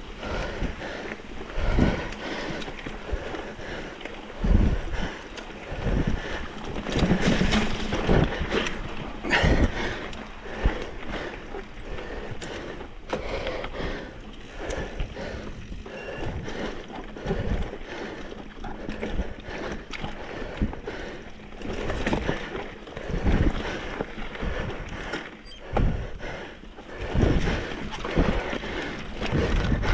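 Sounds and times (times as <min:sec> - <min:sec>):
bike rolling over rocky trail: 0:00.1 - 0:29.8.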